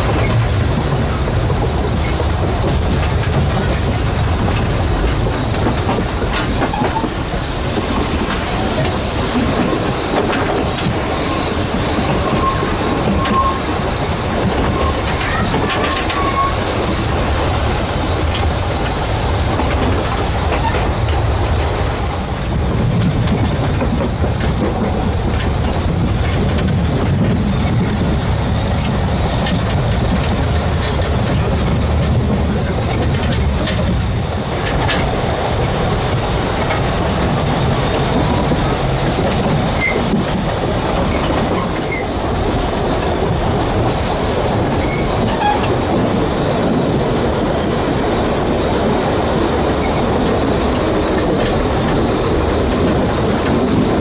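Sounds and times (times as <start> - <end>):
train carriage rattling: 0.0 - 54.0
wheels clattering over rails: 0.0 - 54.0.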